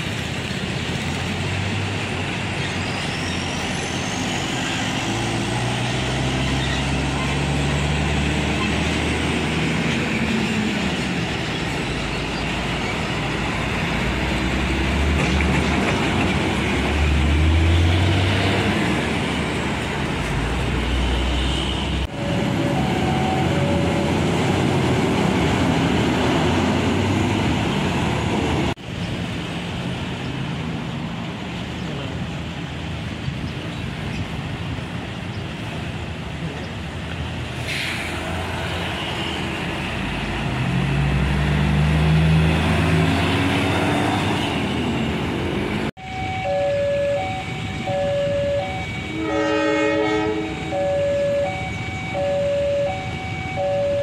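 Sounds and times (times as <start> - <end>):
heavy trucks passing: 0.0 - 54.0
tyre and traffic noise: 0.0 - 54.0.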